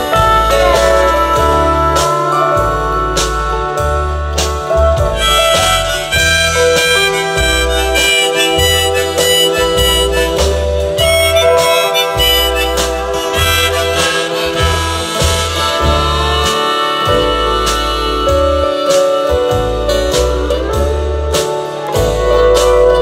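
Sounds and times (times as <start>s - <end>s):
live band playing: 0.0s - 23.0s
upright bass notes: 0.0s - 23.0s.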